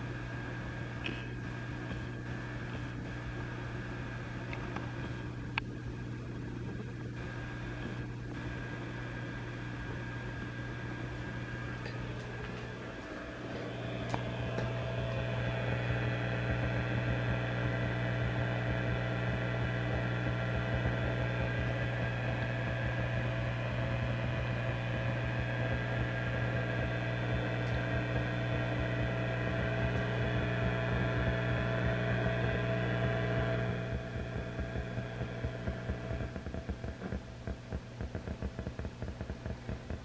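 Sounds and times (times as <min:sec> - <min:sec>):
amplifier low hum: 0:00.0 - 0:40.0
faint steady tones: 0:00.0 - 0:40.0.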